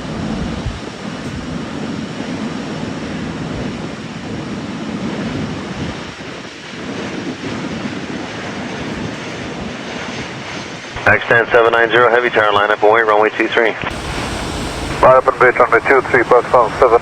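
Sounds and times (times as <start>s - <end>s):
jet engines rumbling at low power: 0.0s - 17.0s.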